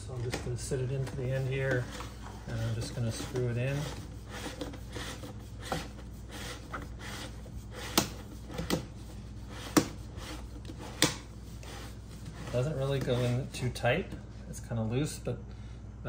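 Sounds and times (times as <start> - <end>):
plastic hose rubbing and clicking: 0.1 - 13.5.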